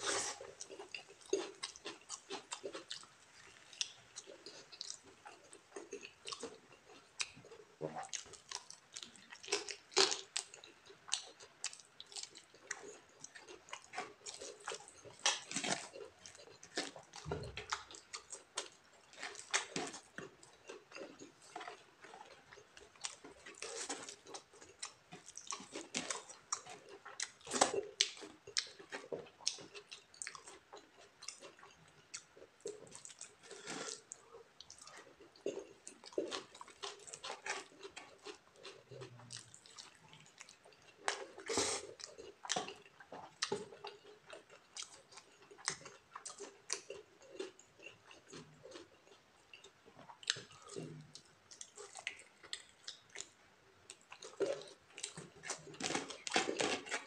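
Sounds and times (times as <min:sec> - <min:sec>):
chewing and wet mouth smacks: 0:00.4 - 0:57.0.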